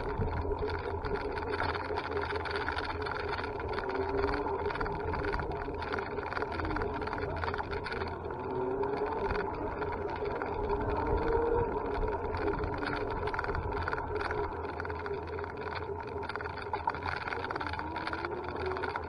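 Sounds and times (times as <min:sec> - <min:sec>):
faint motor hum: 0:00.0 - 0:19.0.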